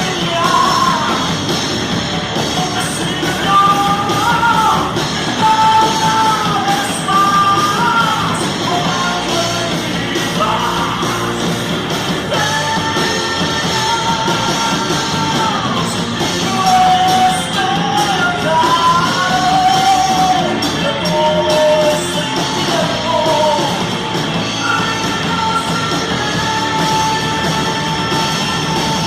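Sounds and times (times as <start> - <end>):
heavy metal band playing: 0.0 - 29.0.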